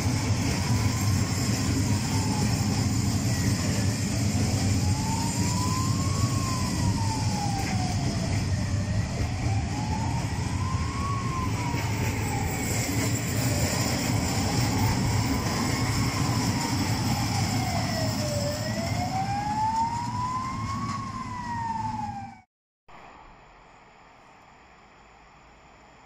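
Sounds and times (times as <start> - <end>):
freight train wagons rumbling: 0.0 - 22.3
whine drifting in pitch: 0.0 - 26.0.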